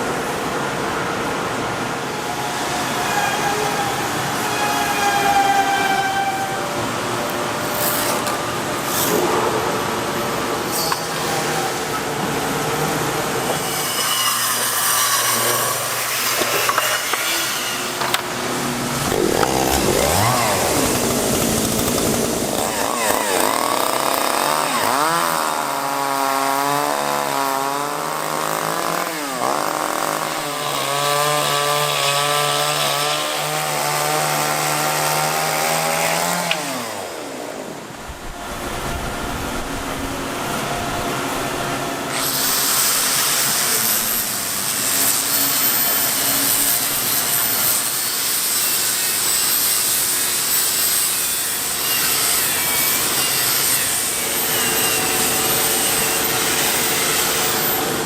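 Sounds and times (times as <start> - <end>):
power saw cutting wood: 2.0 - 39.0, 40.4 - 58.0.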